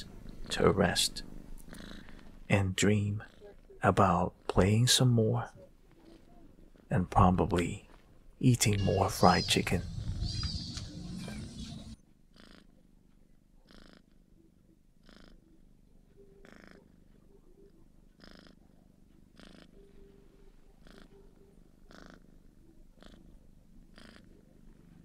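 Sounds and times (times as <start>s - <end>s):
kitten purring: 0.0s - 25.0s.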